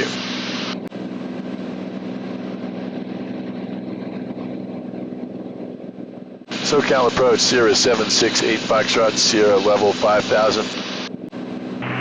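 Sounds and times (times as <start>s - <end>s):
aircraft engine and propeller droning: 0.0s - 12.0s.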